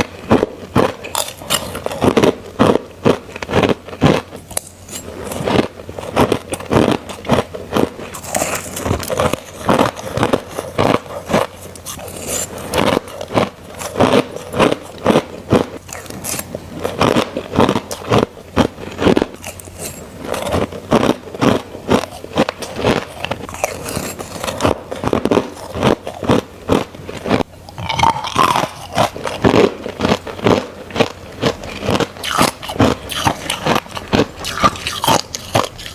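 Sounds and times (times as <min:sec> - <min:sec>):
crushed ice being crunched: 0:00.0 - 0:35.9.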